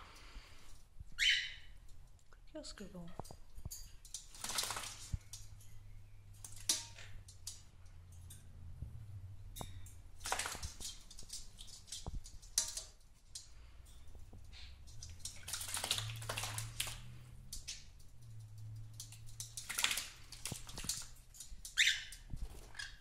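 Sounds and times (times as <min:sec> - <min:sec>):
low steady hum: 0:00.0 - 0:22.6
light ticks and drips: 0:00.0 - 0:23.0
bird splashing in water bowl: 0:03.2 - 0:08.5, 0:09.5 - 0:23.0.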